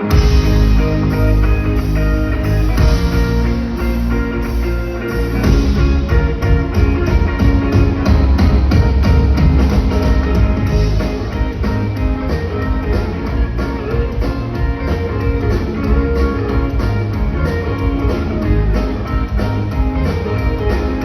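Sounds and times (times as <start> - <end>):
bass: 0.0 - 21.0
drum beat: 0.0 - 21.0
electric guitar: 0.0 - 21.0.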